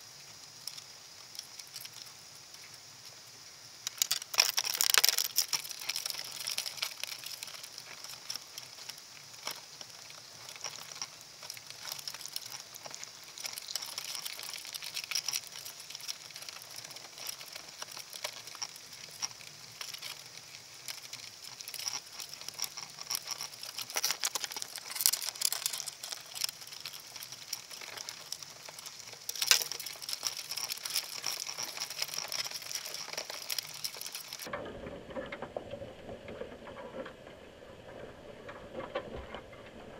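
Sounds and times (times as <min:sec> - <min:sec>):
underwater crackling and clicking: 0:00.6 - 0:03.2, 0:03.8 - 0:39.9.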